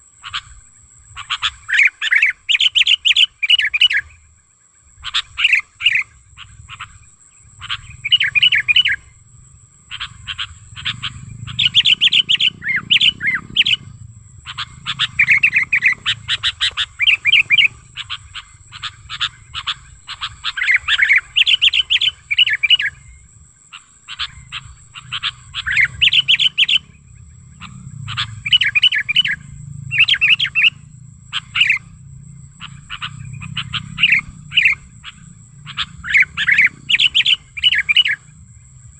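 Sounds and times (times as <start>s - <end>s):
bird chattering chirps: 0.2s - 4.3s, 5.0s - 38.6s.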